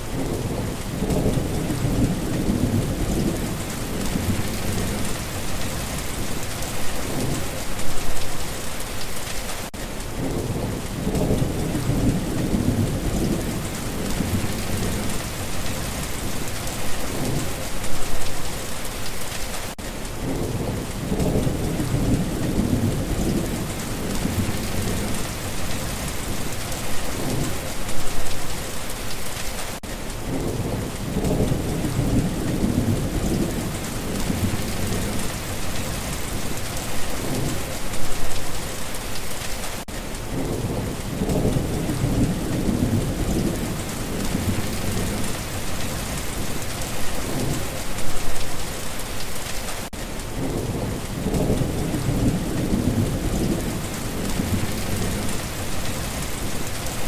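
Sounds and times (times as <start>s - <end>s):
thunder rumbling: 0.0s - 8.5s, 10.1s - 18.8s, 20.2s - 28.4s, 30.2s - 38.4s, 40.2s - 48.5s, 50.3s - 57.0s
steady rain pattering: 0.0s - 57.0s.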